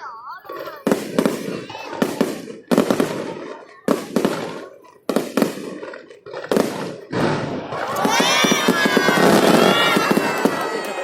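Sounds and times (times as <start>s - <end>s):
fireworks bangs: 0.1s - 11.0s
fireworks crackle: 0.1s - 11.0s.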